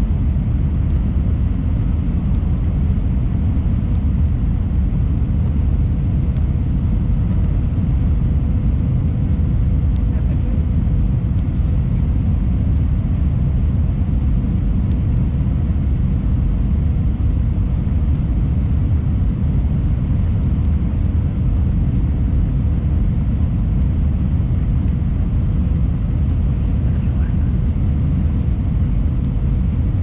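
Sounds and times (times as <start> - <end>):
airliner engine rumble: 0.0 - 30.0.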